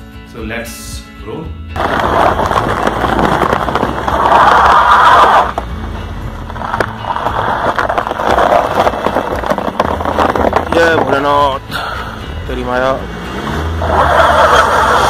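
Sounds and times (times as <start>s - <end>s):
car engine running: 1.8s - 15.0s
tyres crunching over snow: 1.8s - 15.0s.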